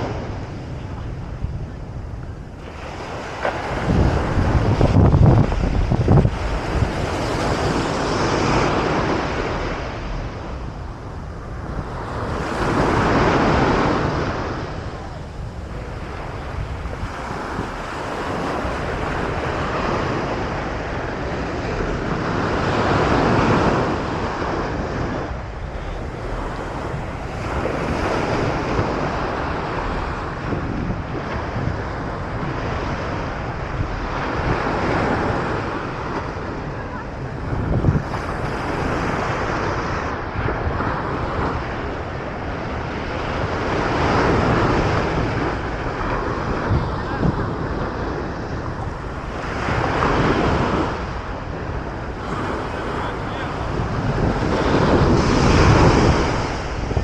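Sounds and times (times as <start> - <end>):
ocean surf breaking: 0.0 - 57.0
wind buffeting microphone: 0.0 - 57.0.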